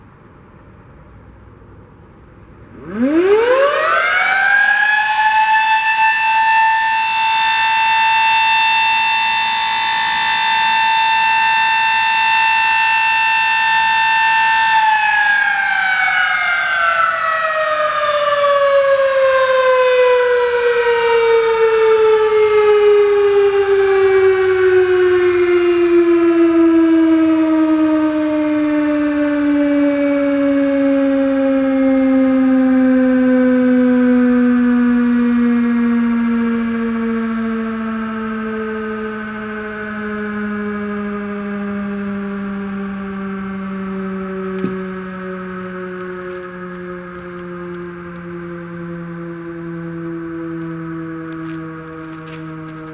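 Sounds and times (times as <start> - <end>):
warning siren winding up and down: 2.6 - 52.9.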